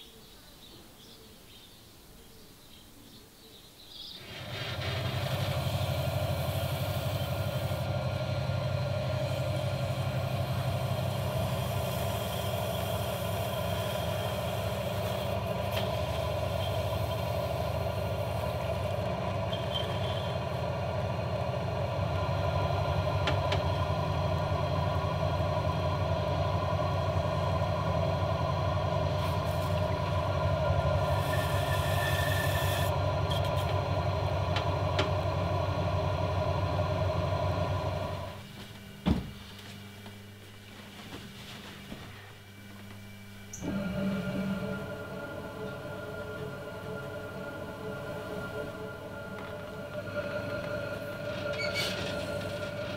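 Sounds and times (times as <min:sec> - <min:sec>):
potter's wheel motor hum: 0:04.2 - 0:38.7, 0:42.4 - 0:52.9.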